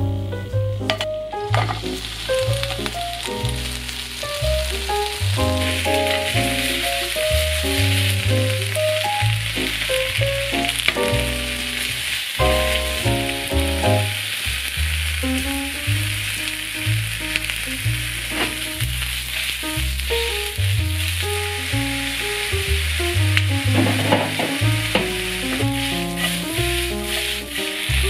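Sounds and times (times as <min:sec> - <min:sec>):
background music with bass line: 0:00.0 - 0:28.0
food sizzling in a pan: 0:01.4 - 0:28.0.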